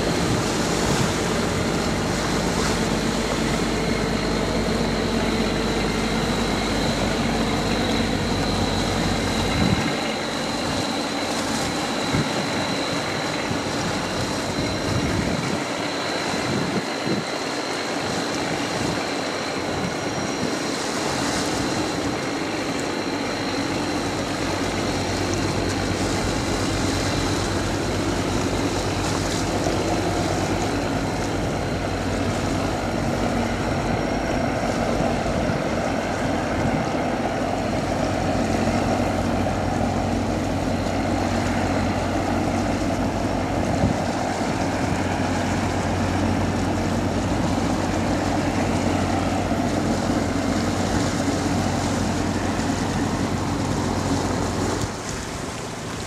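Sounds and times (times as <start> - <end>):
boat diesel engine running: 0.0 - 56.0
water rushing from bow wave: 0.0 - 56.0.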